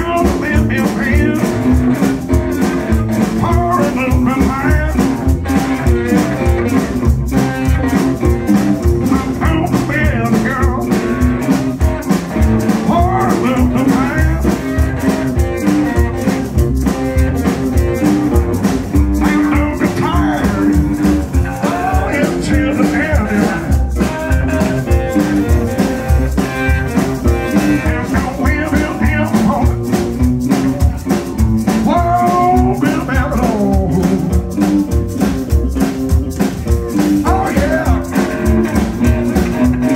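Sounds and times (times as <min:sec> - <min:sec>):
drums: 0:00.0 - 0:39.9
electric guitars: 0:00.0 - 0:39.9
upright bass: 0:00.0 - 0:39.9.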